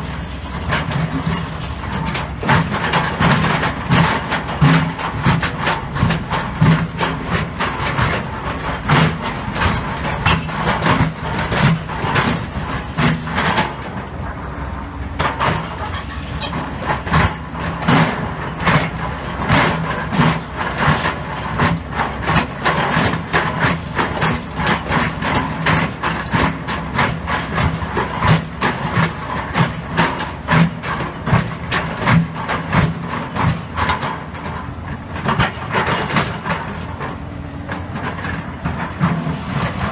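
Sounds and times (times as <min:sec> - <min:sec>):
excavator engine under load: 0:00.0 - 0:39.9.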